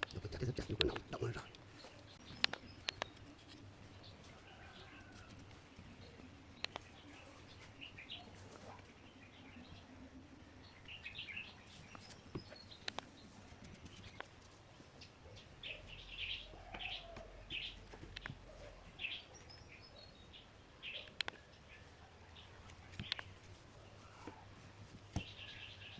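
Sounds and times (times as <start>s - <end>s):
faint birds chirping: 0.0s - 25.9s.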